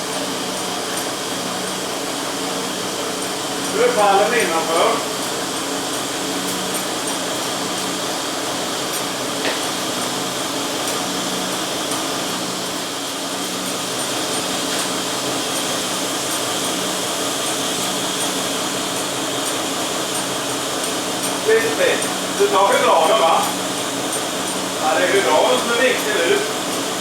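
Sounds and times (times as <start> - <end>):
engine idling drone: 0.0 - 27.0.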